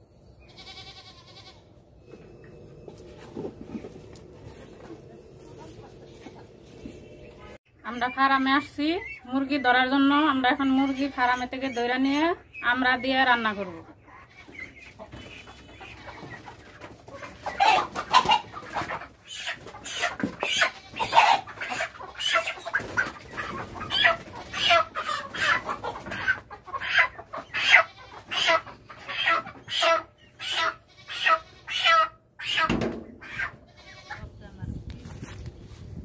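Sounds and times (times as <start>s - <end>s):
chickens squawking and clucking: 0.1s - 34.4s.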